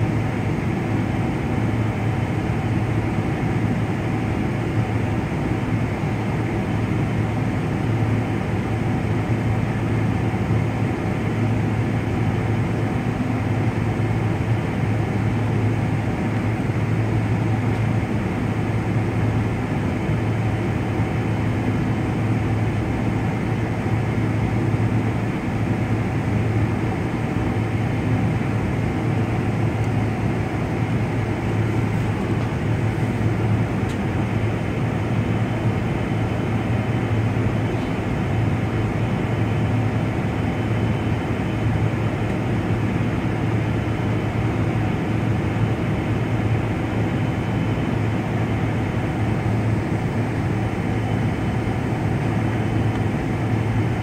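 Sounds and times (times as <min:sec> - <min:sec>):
jet cabin engine noise: 0:00.0 - 0:54.0.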